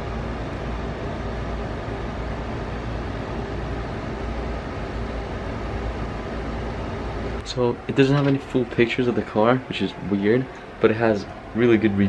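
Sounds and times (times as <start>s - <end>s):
low background hum and hiss: 0.0s - 12.0s.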